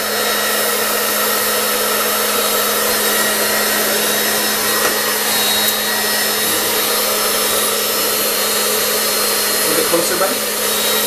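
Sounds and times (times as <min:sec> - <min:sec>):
hairdryer running: 0:00.0 - 0:11.0.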